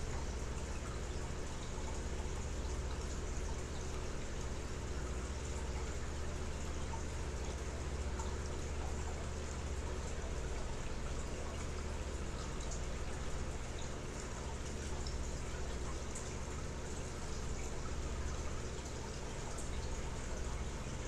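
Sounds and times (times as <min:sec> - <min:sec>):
drip-like ticks: 0:00.0 - 0:21.0
water trickling and splashing: 0:00.0 - 0:21.0.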